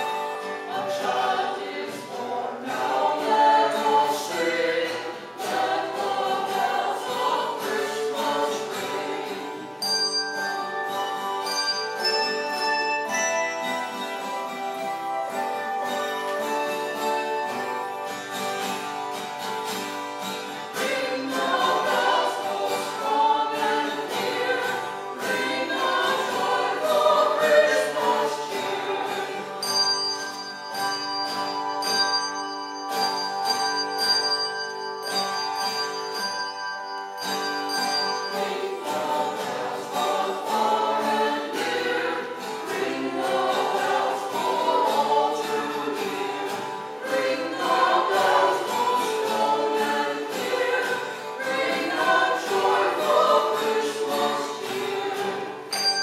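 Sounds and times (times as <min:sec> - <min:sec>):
choir singing with instruments: 0:00.0 - 0:32.2, 0:37.2 - 0:56.0.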